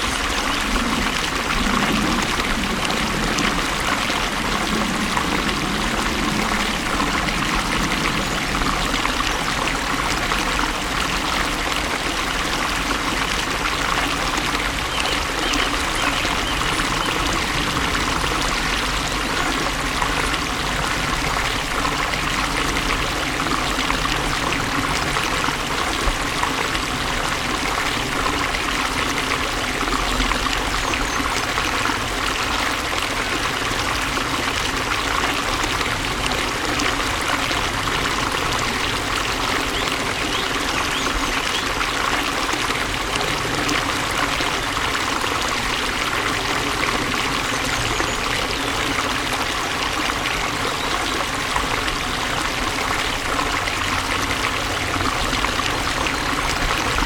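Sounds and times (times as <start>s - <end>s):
stream splashing and trickling: 0.0s - 57.0s.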